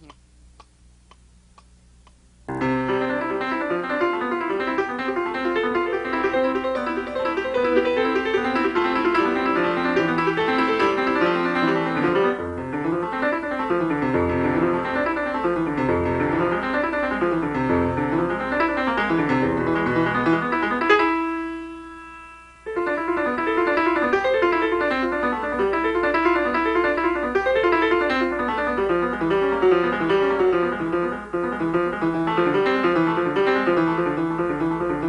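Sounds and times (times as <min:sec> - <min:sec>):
piano music: 0:02.5 - 0:35.0.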